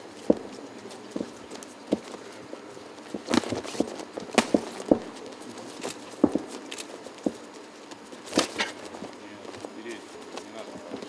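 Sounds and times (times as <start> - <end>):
footsteps on ring canvas: 0.0 - 11.0
low steady hum: 0.0 - 11.0.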